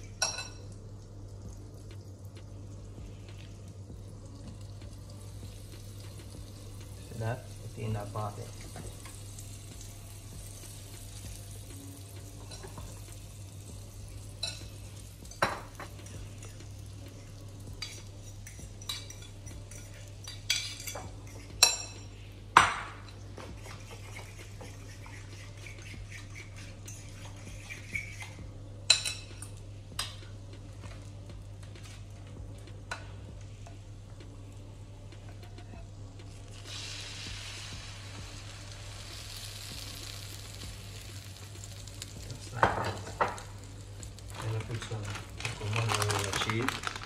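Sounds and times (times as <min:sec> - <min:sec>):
steady low hum: 0:00.0 - 0:07.8, 0:08.5 - 0:42.5
food sizzling in a pan: 0:00.0 - 0:30.4, 0:35.8 - 0:47.0.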